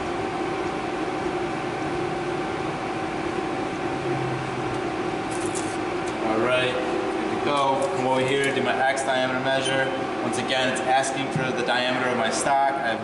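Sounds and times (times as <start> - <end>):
lathe humming and whining: 0.0 - 13.0.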